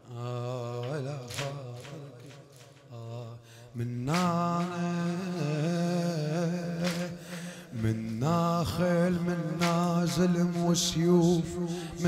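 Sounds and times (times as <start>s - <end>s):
man chanting a lament: 0.0s - 12.0s.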